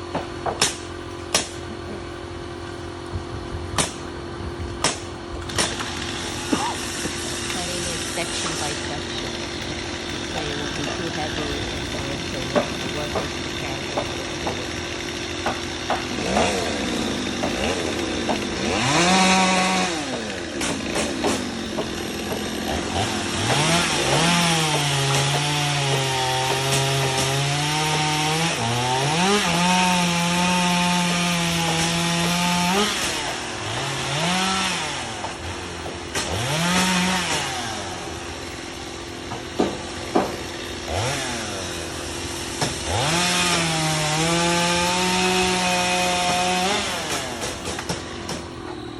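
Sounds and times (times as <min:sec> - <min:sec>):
chainsaw revving and cutting: 0:00.0 - 0:48.9.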